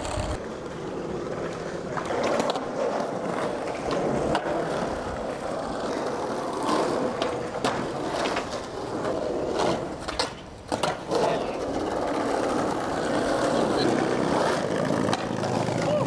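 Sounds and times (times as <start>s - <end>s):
skateboard clacks: 0.0s - 16.0s
skateboard wheels rolling on pavement: 0.0s - 16.0s.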